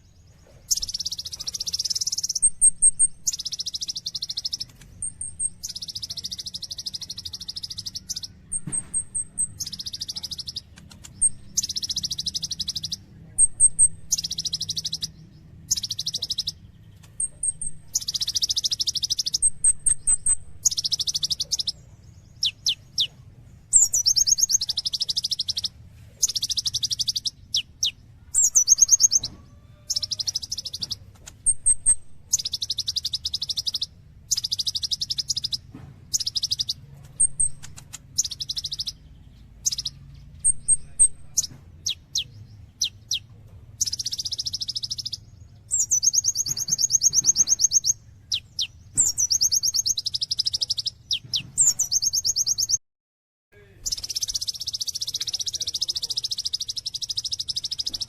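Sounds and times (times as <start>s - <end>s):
bird singing rattling trills: 0.0s - 52.8s, 53.8s - 58.0s.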